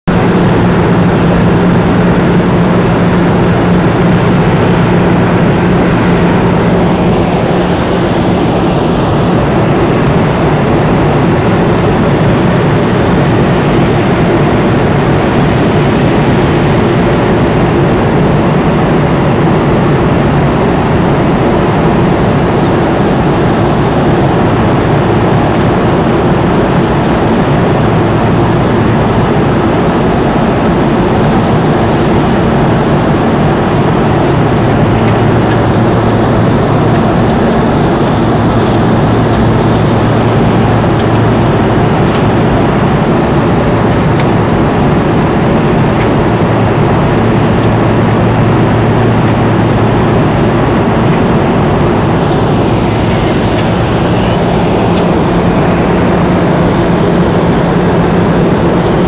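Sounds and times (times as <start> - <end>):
jet cabin noise: 0.0 - 59.0
low hum: 0.0 - 59.0.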